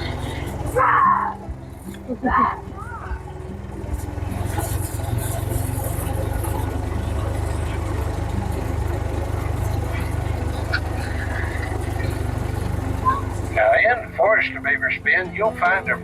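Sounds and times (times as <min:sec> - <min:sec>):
train engine rumbling: 0:00.0 - 0:16.0.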